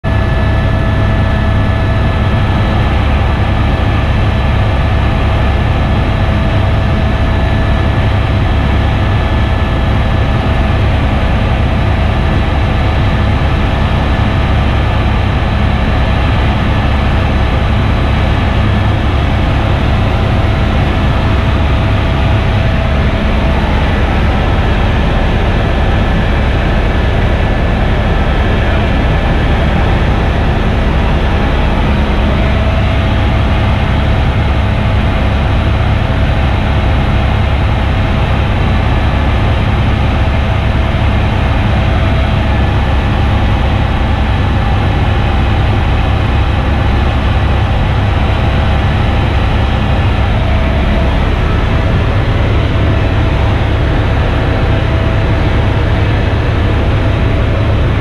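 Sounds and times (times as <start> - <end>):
helicopter rotor and engine drone: 0.0 - 58.0
thin steady whine: 0.1 - 58.0.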